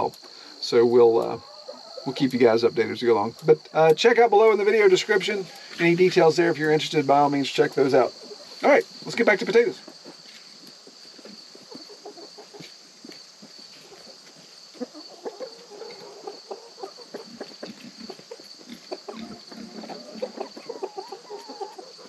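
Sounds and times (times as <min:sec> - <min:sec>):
hens clucking: 0:00.0 - 0:22.0
insects chirring: 0:00.0 - 0:22.0.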